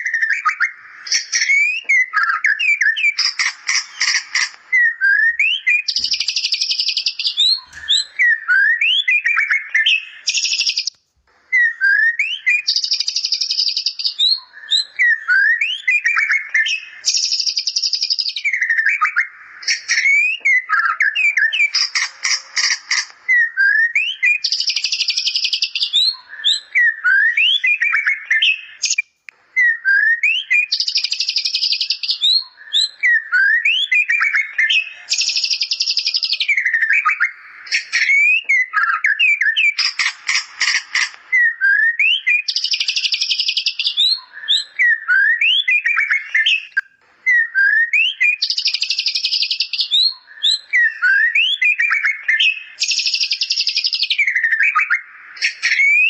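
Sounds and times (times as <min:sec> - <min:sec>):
songbird singing whistles and trills: 0:00.0 - 0:56.0.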